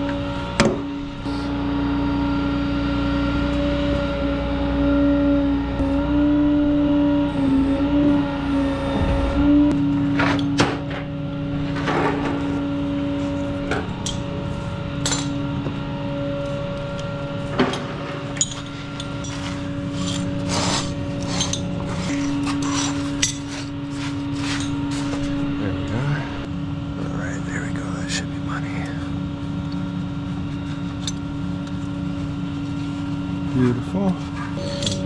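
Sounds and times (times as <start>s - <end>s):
steady hum: 4.0s - 35.0s.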